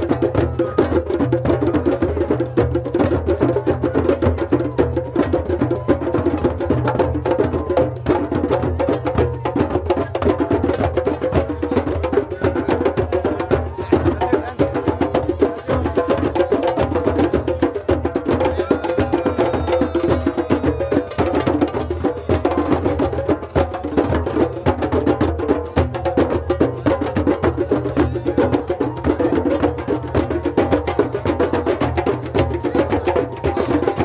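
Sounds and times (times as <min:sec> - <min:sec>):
music with fast percussion and bass: 0:00.0 - 0:34.0.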